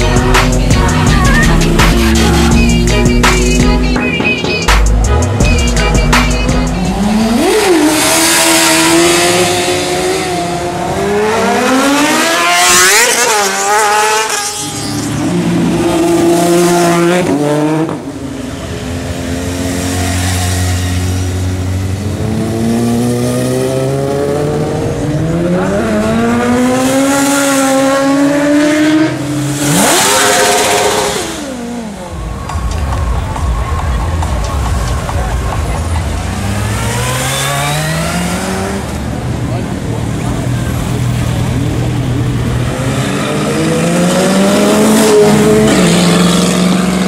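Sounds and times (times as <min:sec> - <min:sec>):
motorcycles accelerating hard: 0:06.4 - 0:32.6, 0:34.2 - 0:47.0.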